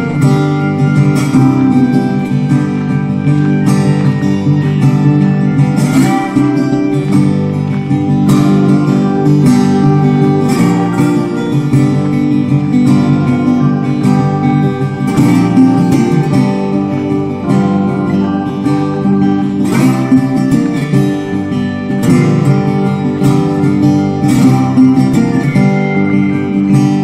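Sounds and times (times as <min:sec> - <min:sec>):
acoustic guitar plucked and strummed: 0:00.0 - 0:27.0.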